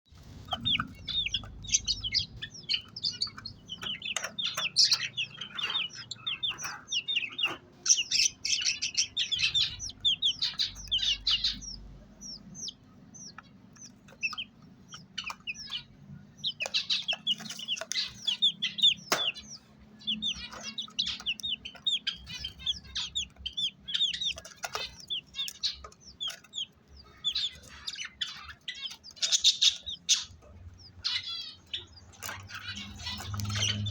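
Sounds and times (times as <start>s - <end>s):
parrots chattering: 0.1s - 33.9s.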